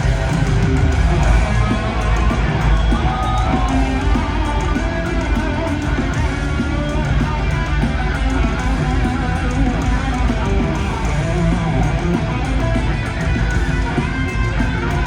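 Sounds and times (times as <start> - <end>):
electric guitar metal solo: 0.0 - 15.0
metal band playing: 0.0 - 15.0.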